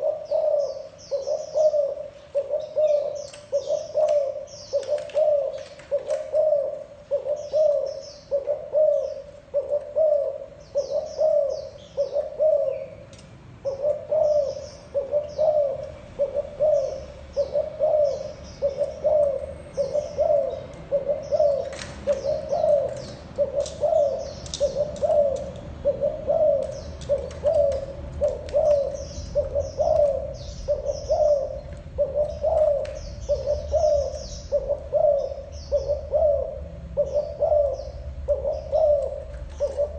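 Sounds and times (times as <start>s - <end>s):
dove cooing: 0.0s - 39.9s
small birds chirping faintly: 0.0s - 39.9s.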